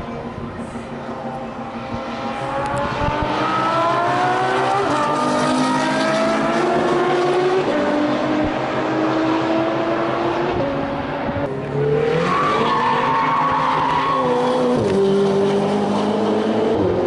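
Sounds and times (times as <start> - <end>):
car engine accelerating hard: 0.3 - 17.0.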